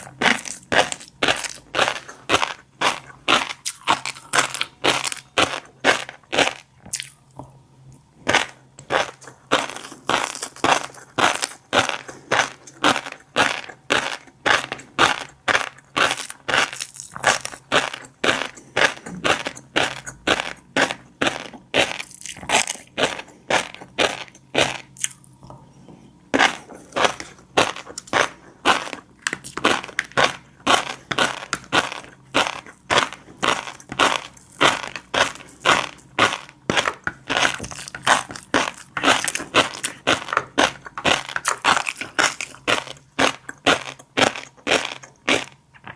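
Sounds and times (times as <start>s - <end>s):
chewing fish roe: 0.0s - 25.7s, 26.3s - 45.9s.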